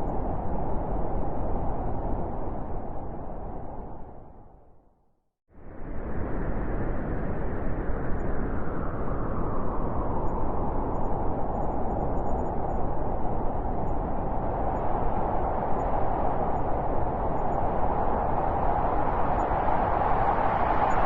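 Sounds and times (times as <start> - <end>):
howling wind: 0.0 - 21.0.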